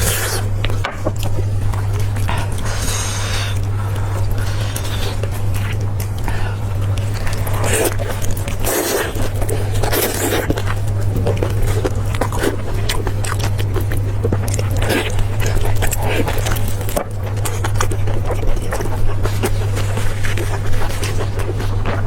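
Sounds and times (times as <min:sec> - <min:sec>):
person chewing food: 0:00.0 - 0:22.0
steady low hum: 0:00.0 - 0:22.0.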